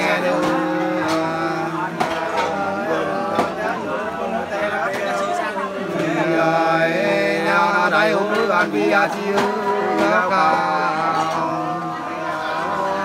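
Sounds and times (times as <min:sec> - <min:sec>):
man singing unaccompanied folk song: 0:00.0 - 0:13.0.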